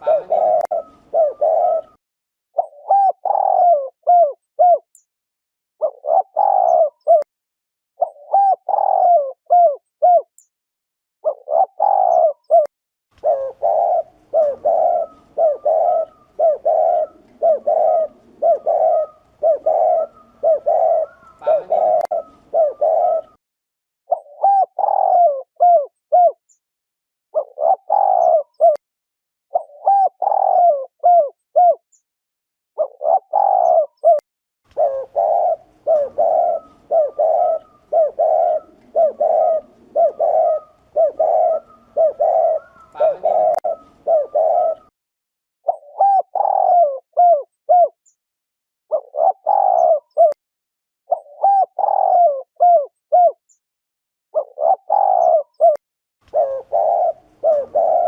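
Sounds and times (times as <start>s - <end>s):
dove cooing: 0.0s - 2.0s, 2.6s - 4.9s, 5.8s - 7.3s, 8.0s - 10.3s, 11.2s - 23.4s, 24.1s - 26.4s, 27.4s - 28.8s, 29.5s - 31.8s, 32.8s - 44.9s, 45.7s - 48.0s, 48.9s - 50.4s, 51.1s - 53.4s, 54.4s - 58.0s.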